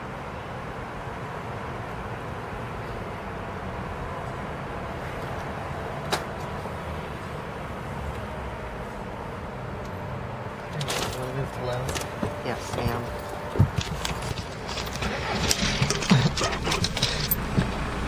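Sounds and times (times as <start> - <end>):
car idling: 2.5 - 18.0.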